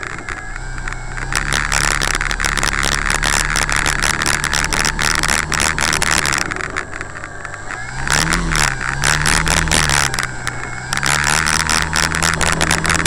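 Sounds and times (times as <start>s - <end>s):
model plane electric motor: 0.0s - 13.0s.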